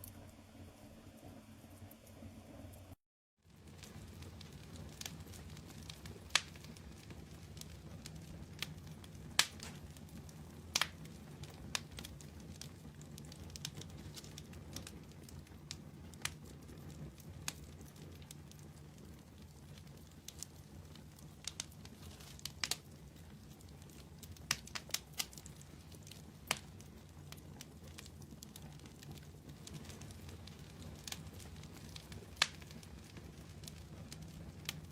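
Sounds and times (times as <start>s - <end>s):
low rumble of flames: 3.4s - 34.9s
crackles and pops of burning wood: 3.5s - 34.9s.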